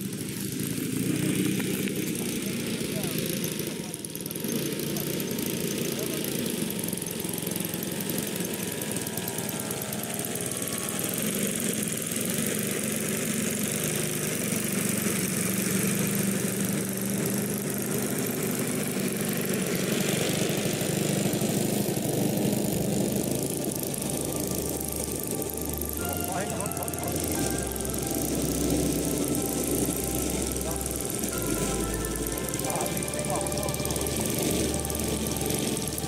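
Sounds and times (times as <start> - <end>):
model plane engine running: 0.0 - 36.0.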